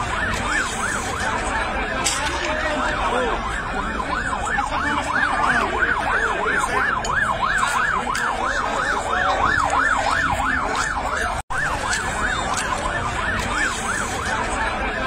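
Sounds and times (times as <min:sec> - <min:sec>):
crowd voices: 0:00.0 - 0:15.0
emergency siren yelping: 0:00.0 - 0:15.0.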